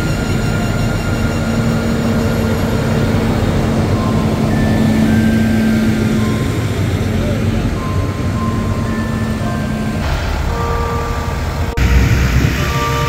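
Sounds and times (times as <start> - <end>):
tractor diesel engines rumbling: 0.0 - 13.0.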